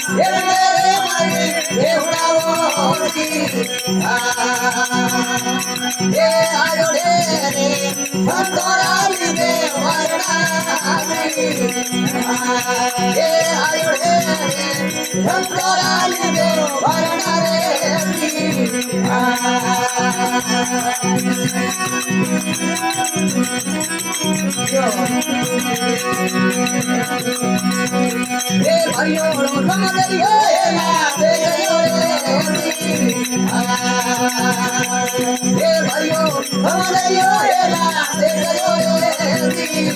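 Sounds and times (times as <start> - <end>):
man singing: 0.0 - 26.2, 28.2 - 39.9
droning string instrument: 0.0 - 39.9
rattling hand percussion: 0.0 - 39.9.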